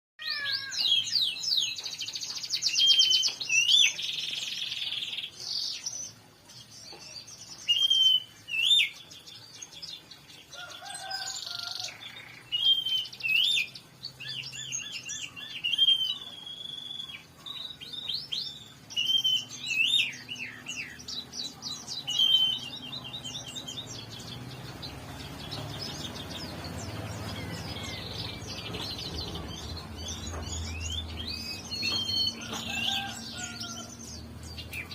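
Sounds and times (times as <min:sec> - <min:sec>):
songbirds singing and chirping: 0:00.2 - 0:34.9.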